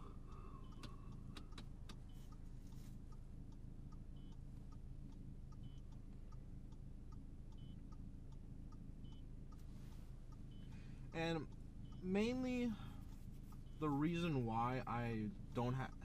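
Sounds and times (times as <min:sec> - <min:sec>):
car engine and road rumble: 0:00.0 - 0:16.0
faint regular ticking: 0:00.0 - 0:16.0.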